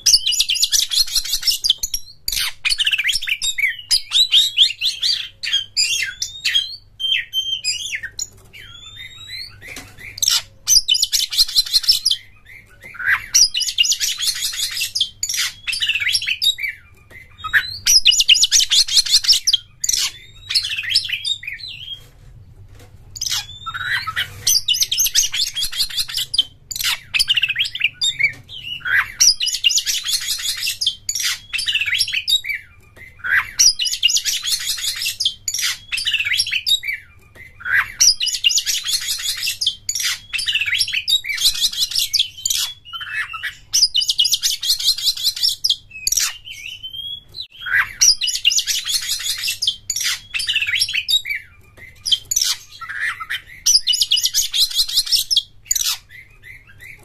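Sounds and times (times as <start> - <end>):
bird chattering song: 0.0 - 22.0, 23.1 - 57.0.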